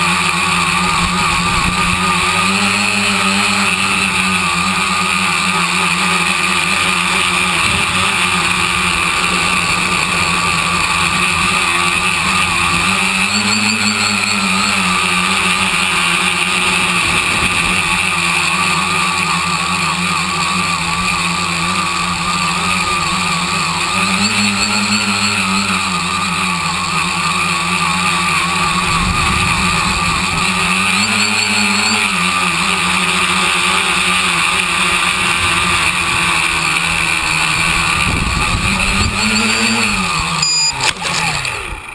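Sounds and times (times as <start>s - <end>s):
electric motors and propellers whining: 0.0s - 41.9s.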